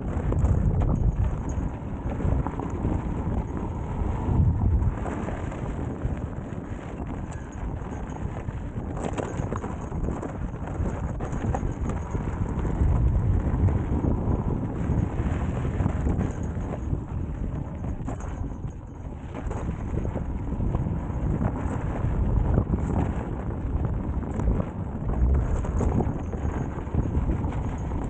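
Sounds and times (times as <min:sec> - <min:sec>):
wind rumbling on microphone: 0:00.0 - 0:28.0.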